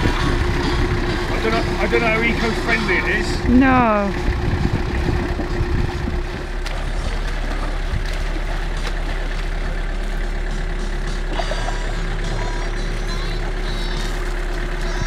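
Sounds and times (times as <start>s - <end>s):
engine idling: 0.0s - 15.0s
exhaust bubbling through water: 0.0s - 15.0s.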